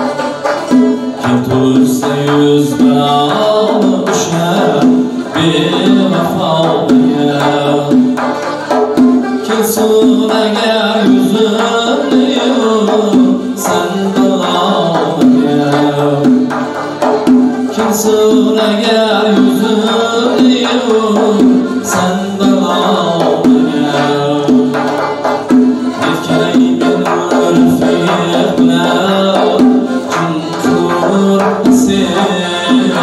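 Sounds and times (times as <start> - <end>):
accordion: 0.0 - 33.0
frame drum rhythm: 0.0 - 33.0
lutes: 0.0 - 33.0
man singing: 0.0 - 33.0.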